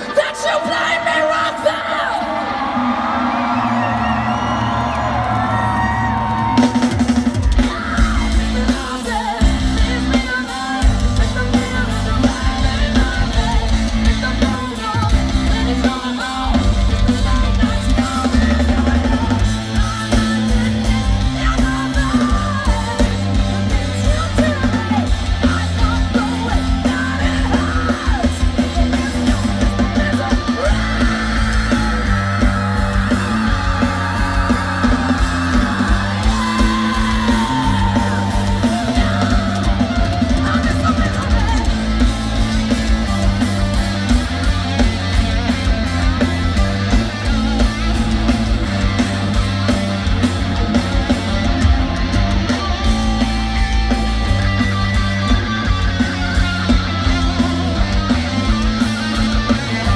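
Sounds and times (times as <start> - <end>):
electric guitars: 0.0 - 59.9
pounding drum kit: 0.0 - 59.9
vocals yelled and sung: 0.0 - 59.9.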